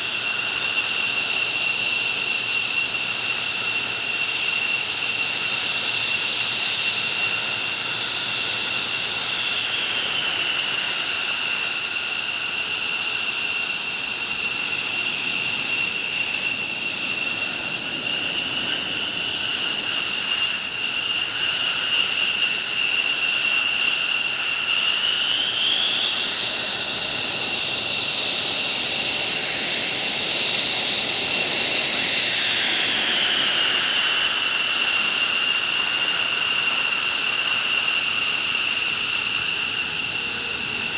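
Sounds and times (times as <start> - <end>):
jet engines running: 0.1 - 40.9.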